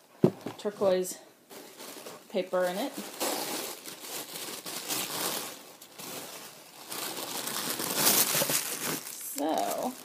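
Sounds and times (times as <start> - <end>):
tissue paper crinkling: 1.5 - 10.0.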